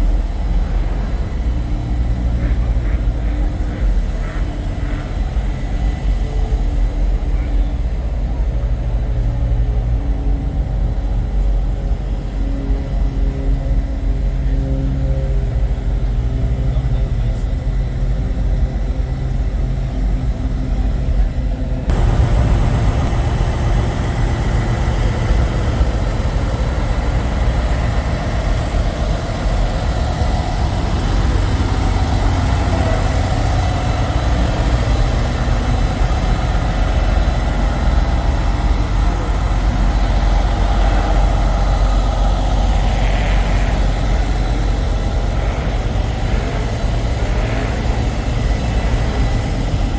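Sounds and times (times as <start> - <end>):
diesel truck engines idling: 0.0 - 49.9.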